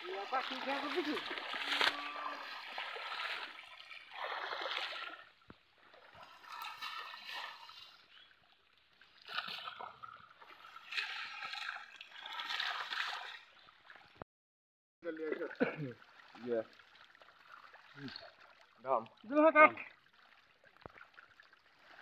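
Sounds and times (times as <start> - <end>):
pond water splashing and sloshing: 0.0 - 14.2, 15.0 - 22.0.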